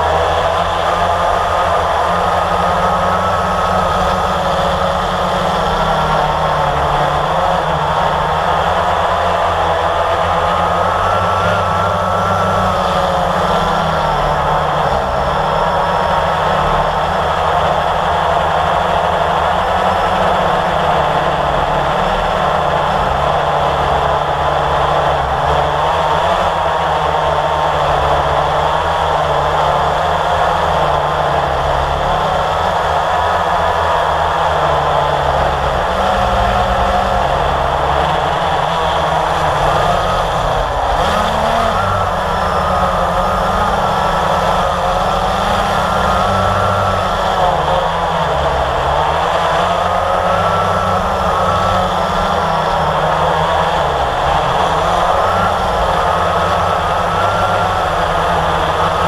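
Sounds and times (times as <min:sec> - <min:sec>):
quadcopter propellers whining: 0:00.0 - 0:59.0.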